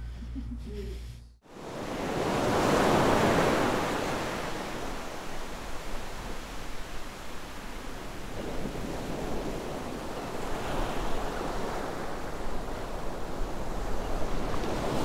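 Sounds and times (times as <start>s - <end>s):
ocean waves washing on shore: 1.4s - 15.0s.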